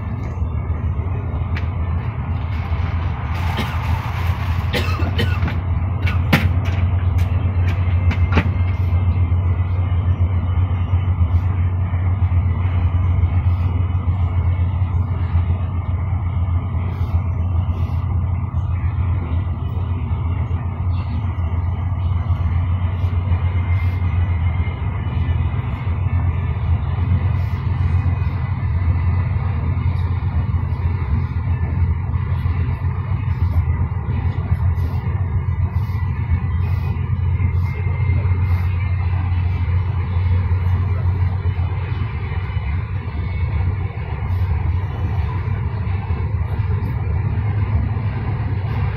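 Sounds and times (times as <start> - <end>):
engine drone: 0.0 - 48.9
tyre and road noise: 0.0 - 48.9.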